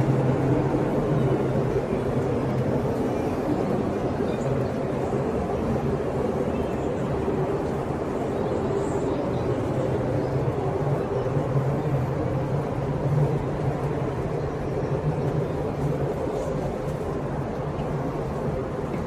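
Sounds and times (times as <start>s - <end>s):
ship engines droning: 0.0s - 19.0s.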